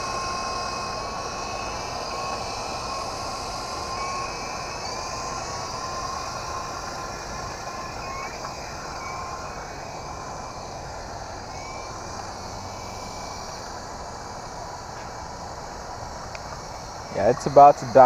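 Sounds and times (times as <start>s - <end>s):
outdoor background noise: 0.0s - 18.0s
toy helicopter motor whine: 0.0s - 18.0s.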